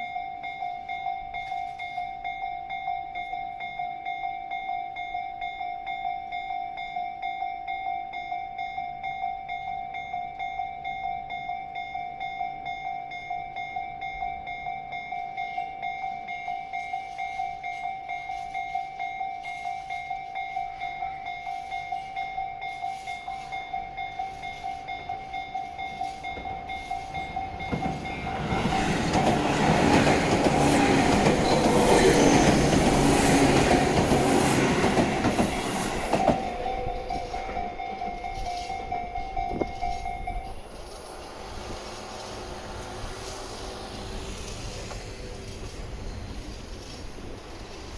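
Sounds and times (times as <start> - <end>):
level-crossing warning bell ringing: 0.0 - 41.8
train wheels on rails: 9.0 - 47.9.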